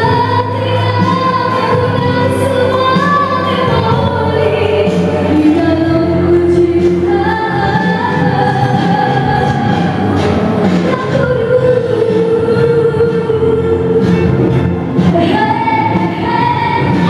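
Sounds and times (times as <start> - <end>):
instrumental backing track: 0.0 - 17.0
woman singing into microphone: 0.0 - 17.0.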